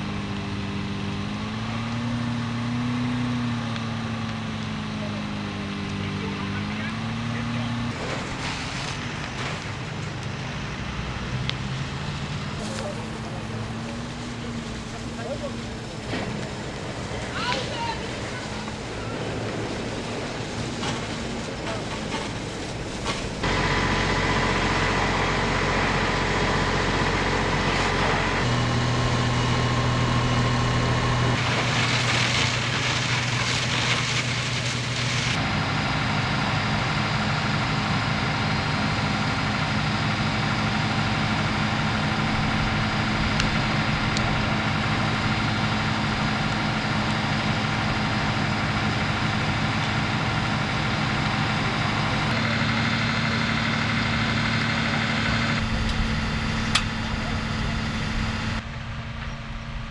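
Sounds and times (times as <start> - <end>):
heavy vehicle engines idling: 0.0 - 59.9.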